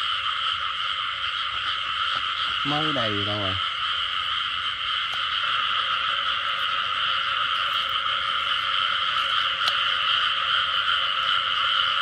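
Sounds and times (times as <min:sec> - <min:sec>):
frogs chorus calling: 0:00.0 - 0:12.0.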